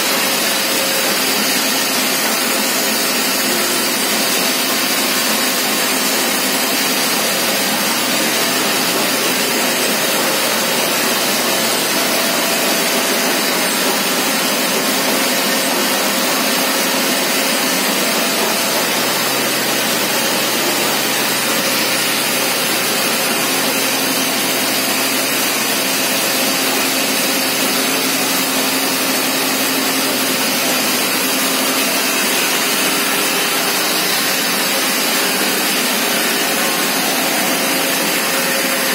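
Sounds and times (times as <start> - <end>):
textile machinery rushing din: 0.0 - 38.9.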